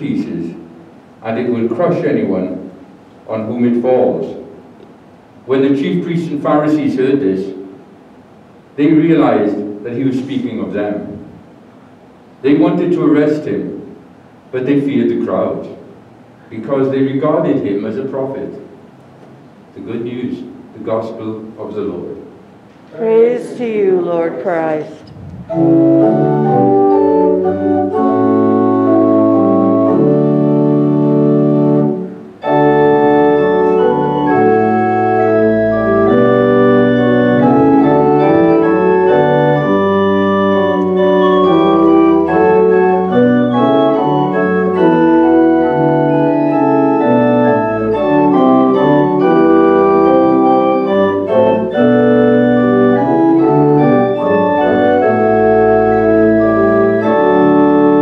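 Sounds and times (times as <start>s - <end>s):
organ chords: 0.0s - 58.0s.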